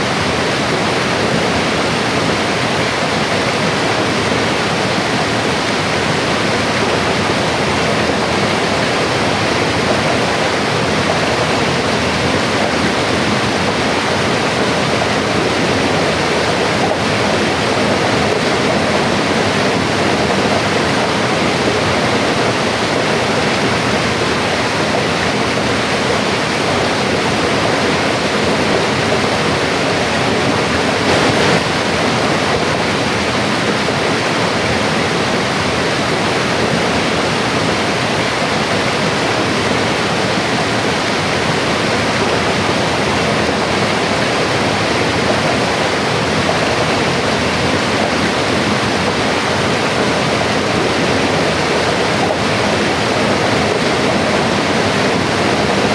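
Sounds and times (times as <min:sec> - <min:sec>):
river rushing: 0:00.0 - 0:55.9.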